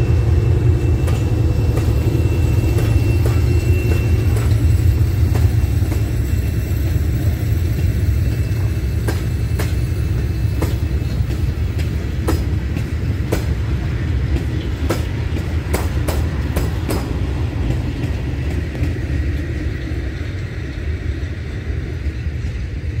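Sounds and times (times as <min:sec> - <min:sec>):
train low rumble: 0:00.0 - 0:23.0
train wheels clicking over rail joints: 0:00.0 - 0:23.0.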